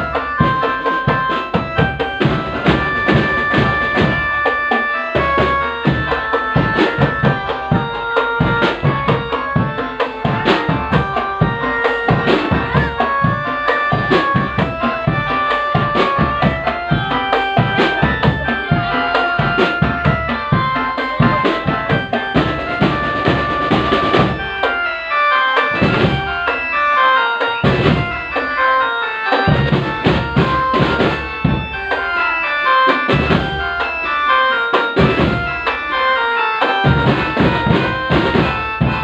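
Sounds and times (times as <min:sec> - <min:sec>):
driving drum beat: 0:00.0 - 0:39.0
melody of held notes: 0:00.0 - 0:39.0.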